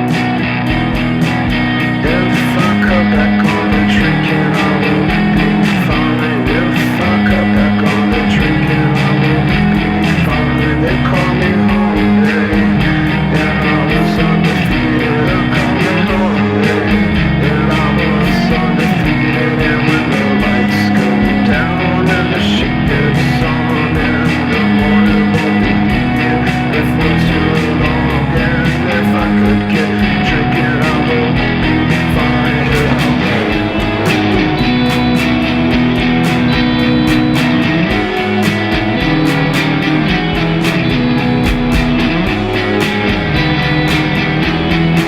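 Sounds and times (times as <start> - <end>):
rock music with guitar and drums: 0.0 - 45.0.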